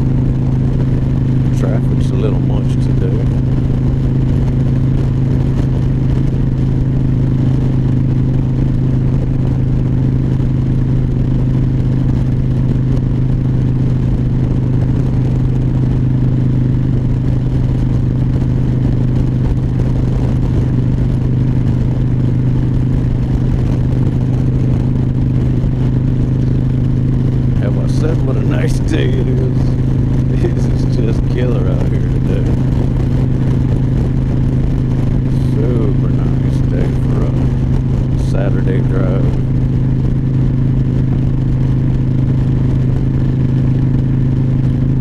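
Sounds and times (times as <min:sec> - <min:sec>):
motorcycle engine hum: 0:00.0 - 0:45.0.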